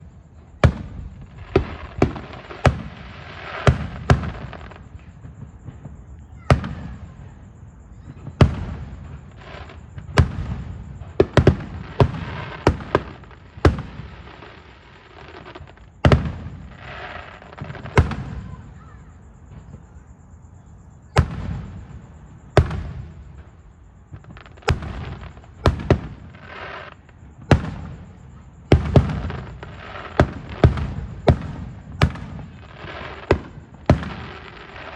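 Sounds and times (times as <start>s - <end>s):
fireworks bangs: 0.0s - 20.1s, 21.0s - 34.9s
crackling fireworks tail: 0.0s - 34.9s.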